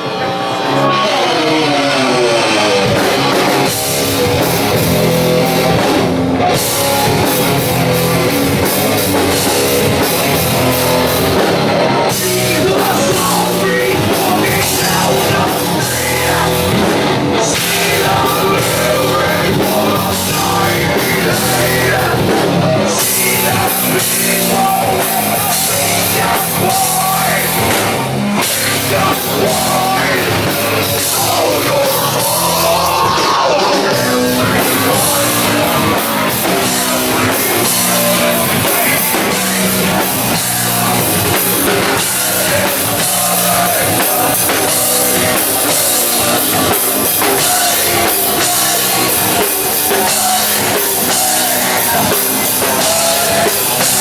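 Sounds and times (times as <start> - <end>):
distorted electric guitar: 0.0 - 54.0
drum kit: 0.0 - 54.0
live rock band playing: 0.0 - 54.0.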